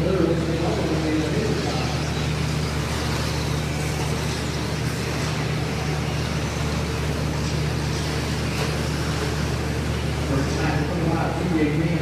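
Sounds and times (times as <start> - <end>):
remote control trucks racing: 0.0 - 12.0
steady low hum: 0.0 - 12.0.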